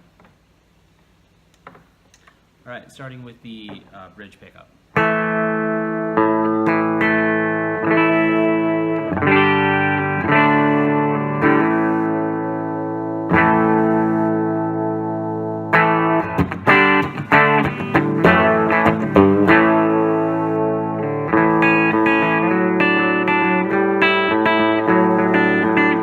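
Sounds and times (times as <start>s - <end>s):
electric guitar chords: 4.9s - 26.0s.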